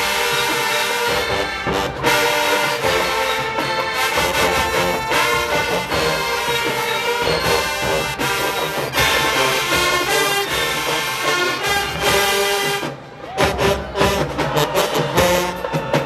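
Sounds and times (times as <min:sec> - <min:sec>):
drum line: 0:00.0 - 0:16.0
marching band playing loudly: 0:00.0 - 0:16.0
trumpets and trombones: 0:00.0 - 0:16.0.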